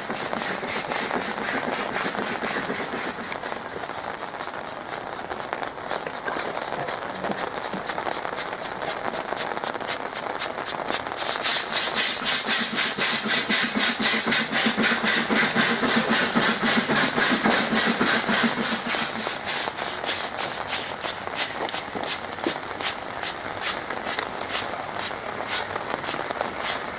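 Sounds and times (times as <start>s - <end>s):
steam hissing: 0.0s - 3.8s, 6.3s - 26.9s
steam locomotive exhaust beats: 0.0s - 26.9s.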